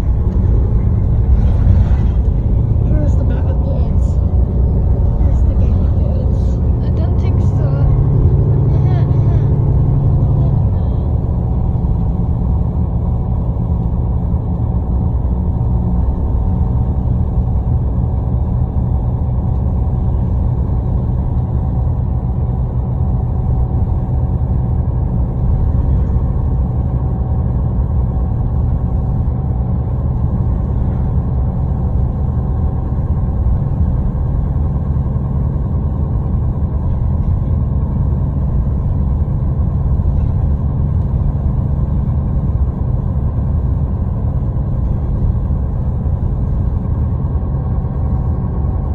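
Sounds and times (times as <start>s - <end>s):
bus engine drone: 0.0s - 48.9s
road and tyre noise: 0.0s - 48.9s.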